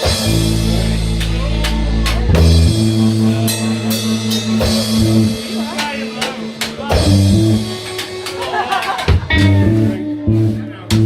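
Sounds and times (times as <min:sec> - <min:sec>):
bass guitar: 0:00.0 - 0:11.0
drum kit and cymbals: 0:00.0 - 0:11.0
electric guitar: 0:00.0 - 0:11.0.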